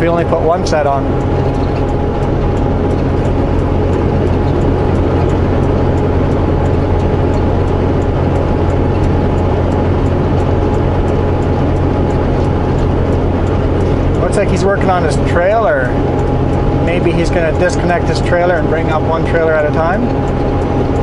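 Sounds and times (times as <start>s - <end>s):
diesel engine droning: 0.0s - 21.0s
faint regular ticking: 0.0s - 21.0s.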